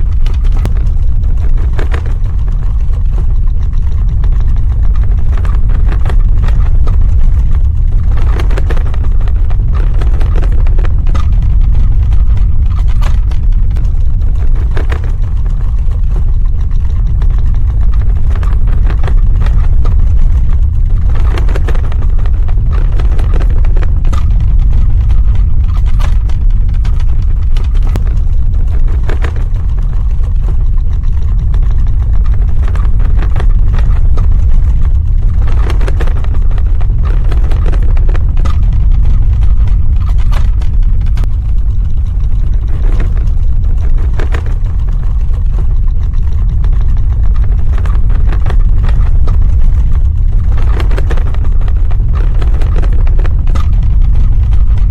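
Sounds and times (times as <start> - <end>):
crackling and rattling: 0.0 - 54.9
deep earthquake rumble: 0.0 - 54.9.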